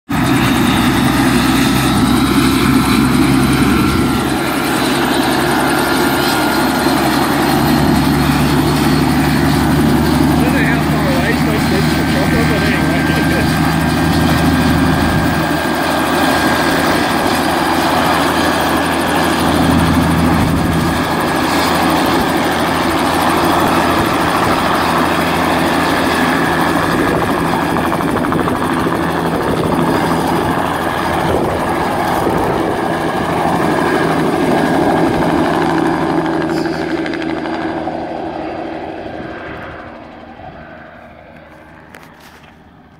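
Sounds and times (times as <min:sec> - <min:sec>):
helicopter turbine whine and rotor: 0:00.1 - 0:42.9.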